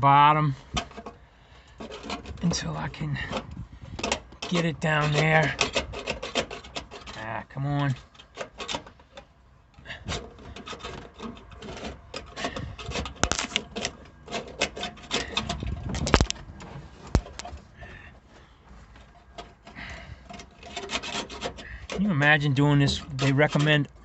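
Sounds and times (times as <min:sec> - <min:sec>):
wire scraping against sheet metal: 0:00.6 - 0:17.6, 0:19.2 - 0:24.0.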